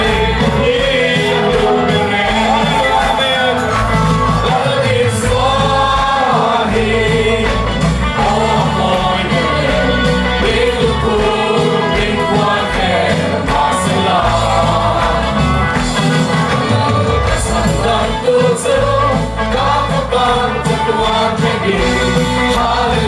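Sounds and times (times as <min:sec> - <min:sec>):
band with steady beat: 0:00.0 - 0:23.0
group singing gospel song: 0:00.0 - 0:23.0.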